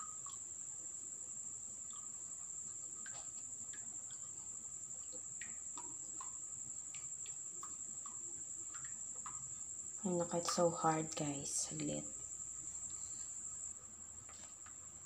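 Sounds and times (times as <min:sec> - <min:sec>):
liquid drips and plops: 0:00.0 - 0:13.1.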